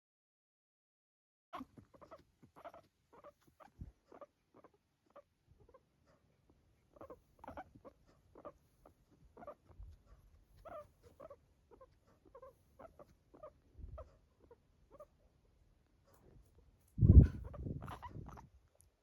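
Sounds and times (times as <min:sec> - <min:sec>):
guinea pig breathing noises: 0:01.6 - 0:19.0.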